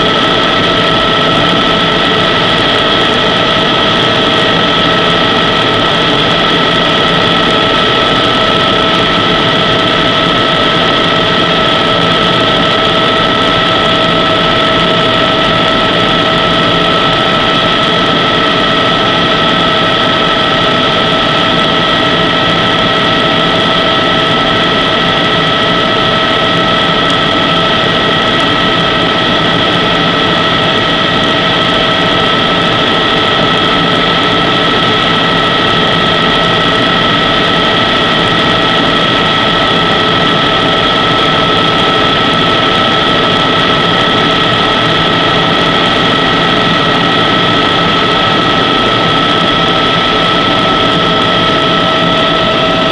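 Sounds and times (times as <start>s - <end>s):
helicopter engine and rotors: 0.0s - 52.9s.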